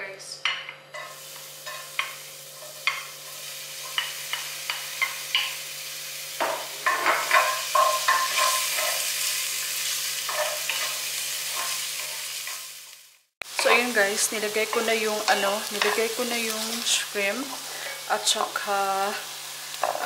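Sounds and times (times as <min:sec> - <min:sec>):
food sizzling in a frying pan: 0:00.9 - 0:20.0.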